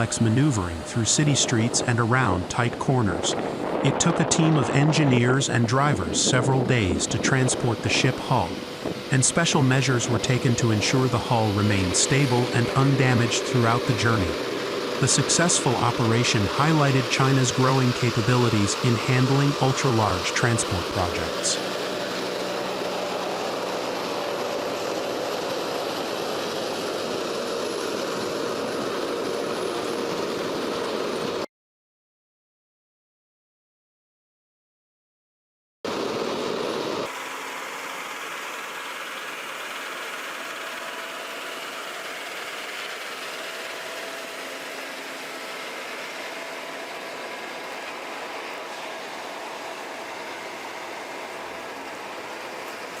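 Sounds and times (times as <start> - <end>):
heavy vehicle drone: 0.0 - 31.5, 35.9 - 53.0.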